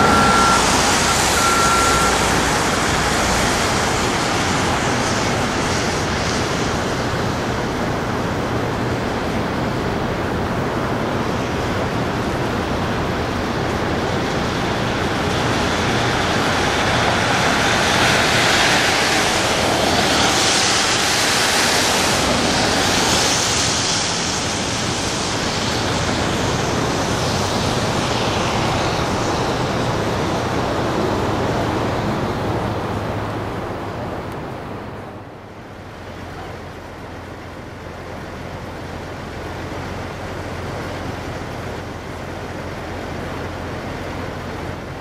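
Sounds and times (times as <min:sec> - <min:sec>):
water rushing roar: 0:00.0 - 0:45.0.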